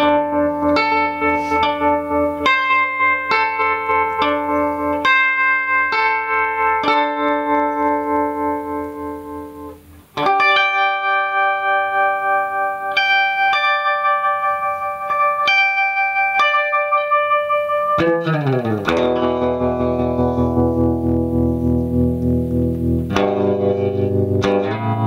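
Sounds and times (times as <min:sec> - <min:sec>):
electric guitar with tremolo: 0:00.0 - 0:25.0.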